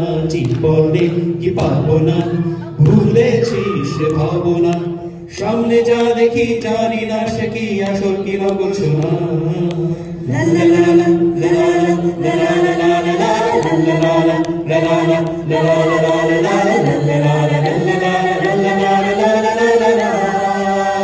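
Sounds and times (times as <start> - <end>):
group singing held notes: 0.0 - 21.0.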